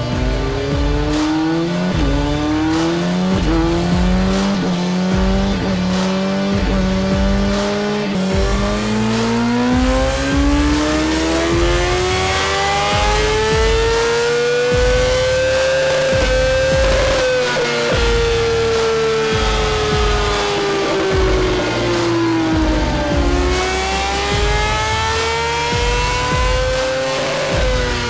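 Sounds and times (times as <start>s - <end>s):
motorcycle engine revving on dyno: 0.0s - 28.0s.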